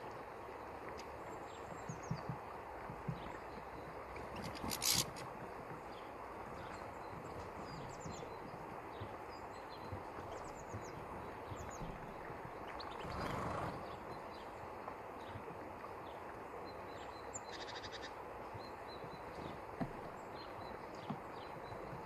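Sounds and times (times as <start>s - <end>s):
outdoor background noise: 0.0s - 22.0s
small birds chirping: 3.0s - 14.6s, 15.2s - 22.0s.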